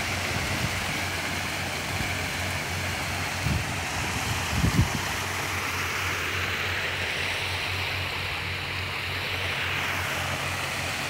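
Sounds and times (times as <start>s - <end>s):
waterfall splashing into pond: 0.0s - 11.0s.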